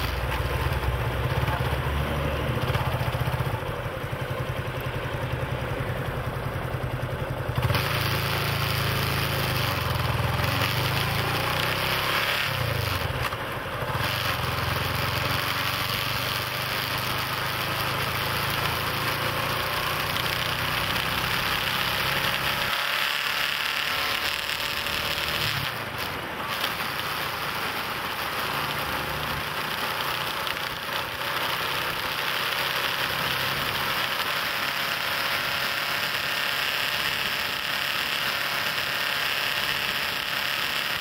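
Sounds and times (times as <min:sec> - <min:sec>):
vehicle engine hum: 0:00.0 - 0:41.0
wind and road noise: 0:00.0 - 0:41.0.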